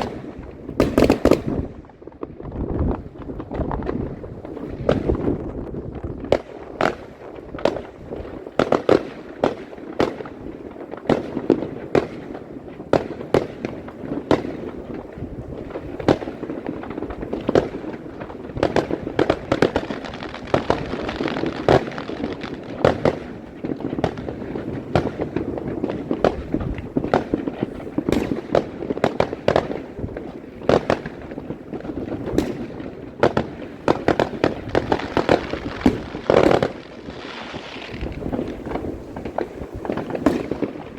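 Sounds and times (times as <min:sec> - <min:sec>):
fireworks sharp bangs: 0:00.0 - 0:40.9.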